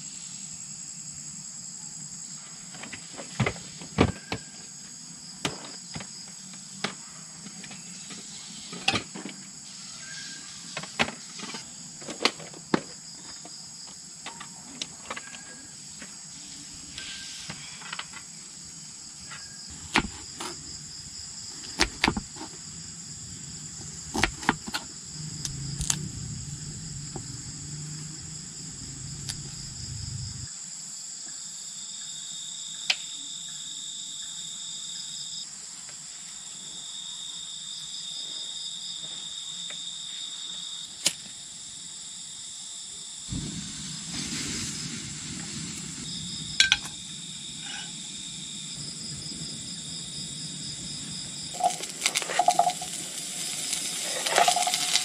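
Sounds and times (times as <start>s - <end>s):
crickets and insects chirring: 0.0s - 55.0s
insect trill: 0.0s - 55.0s.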